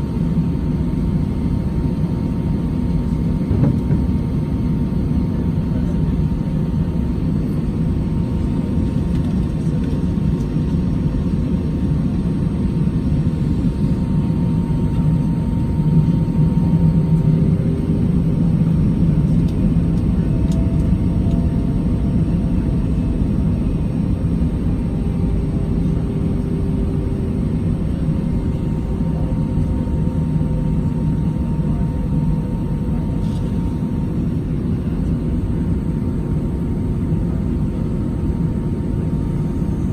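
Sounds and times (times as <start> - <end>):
engine and airflow rumble: 0.0 - 39.9
faint steady whine: 0.0 - 39.9.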